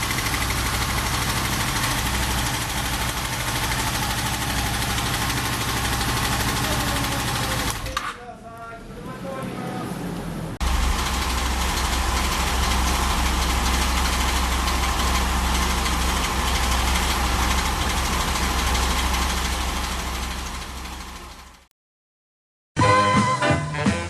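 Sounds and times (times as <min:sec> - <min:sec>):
motorcycle engine idling: 0:00.0 - 0:08.7, 0:10.6 - 0:21.7.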